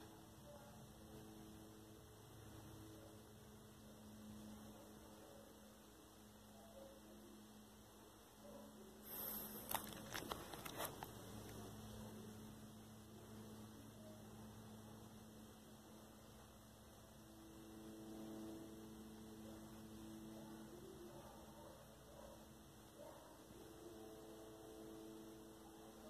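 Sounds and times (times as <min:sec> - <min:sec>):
ceiling fan motor hum: 0:00.0 - 0:26.0.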